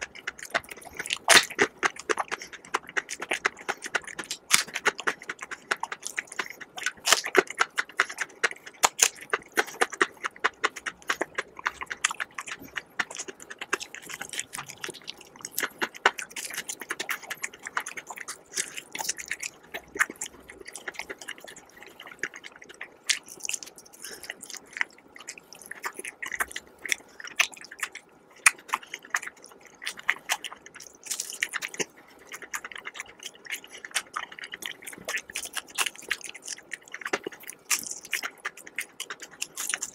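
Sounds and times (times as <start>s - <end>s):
chewing crispy chicken: 0.0s - 39.9s
wet mouth sounds: 0.0s - 39.9s.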